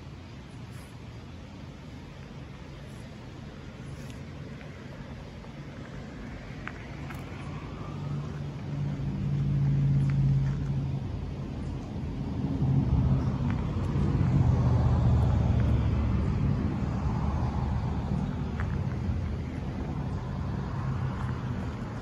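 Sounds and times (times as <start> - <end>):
car engine exhaust drone: 0.0 - 22.0.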